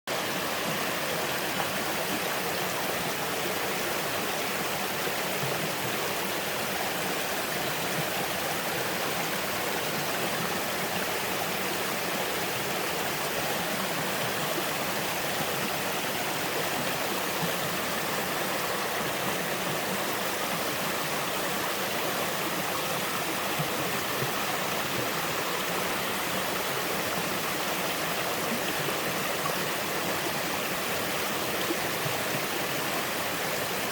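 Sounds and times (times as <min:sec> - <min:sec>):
waterfall rushing and splashing: 0:00.1 - 0:33.9.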